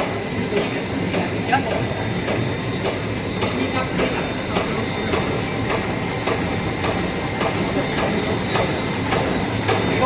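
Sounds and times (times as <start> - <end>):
high machine whine: 0.0 - 10.0
machine hum: 0.0 - 10.0.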